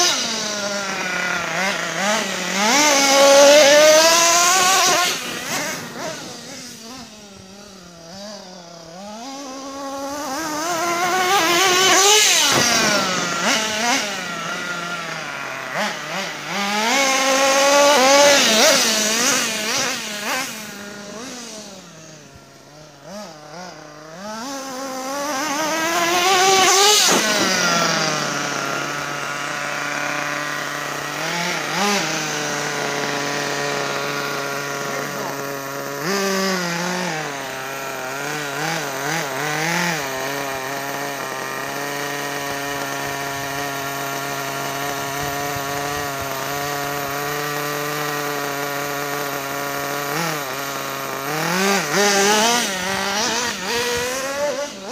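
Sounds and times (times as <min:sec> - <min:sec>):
toy truck engine revving: 0:00.0 - 0:54.9.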